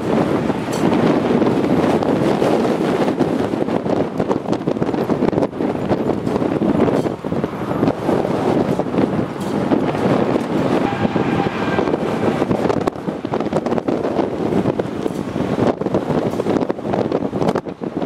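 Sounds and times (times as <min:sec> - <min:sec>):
road and wind noise: 0:00.0 - 0:18.0
wind buffeting microphone: 0:00.0 - 0:18.0.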